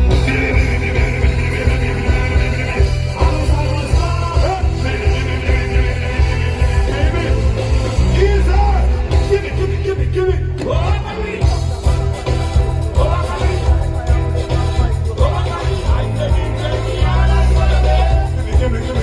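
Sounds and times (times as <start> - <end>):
live band music: 0.0 - 19.0
person singing: 0.0 - 19.0.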